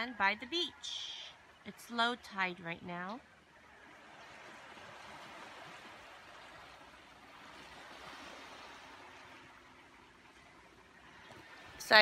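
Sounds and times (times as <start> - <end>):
faint sea surf on shore: 0.0 - 12.0.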